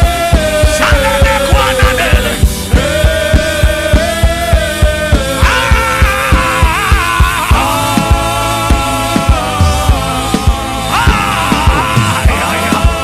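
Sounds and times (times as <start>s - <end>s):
steady drum beat: 0.0s - 13.0s
sustained keyboard chords: 0.0s - 13.0s.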